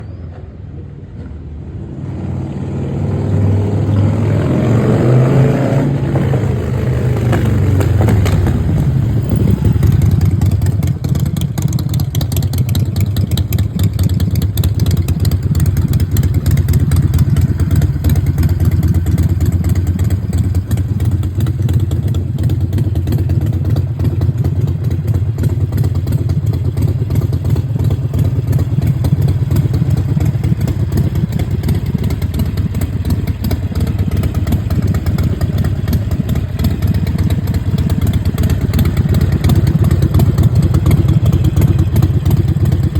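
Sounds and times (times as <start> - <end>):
motorcycle engine idling: 6.0 - 42.9.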